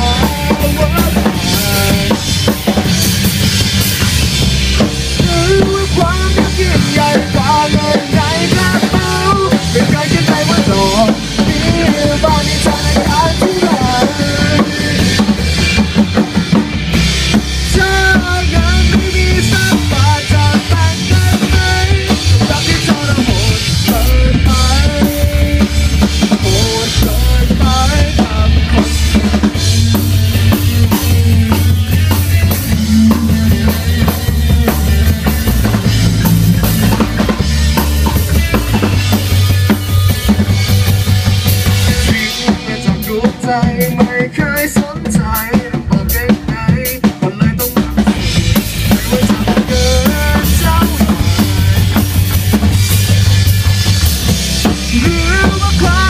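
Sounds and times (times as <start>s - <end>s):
bass guitar: 0.0s - 56.0s
drum kit: 0.0s - 56.0s
electric guitar lead line: 0.0s - 56.0s.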